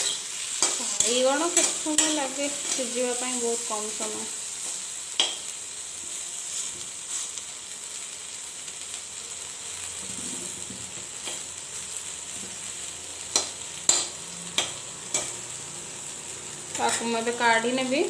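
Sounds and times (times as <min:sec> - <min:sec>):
frying in hot oil: 0:00.0 - 0:18.0.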